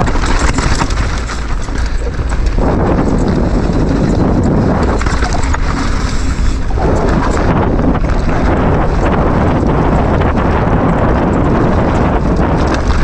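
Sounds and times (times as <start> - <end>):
bike rattling over rocks: 0.0 - 13.0
wind on microphone: 0.0 - 13.0.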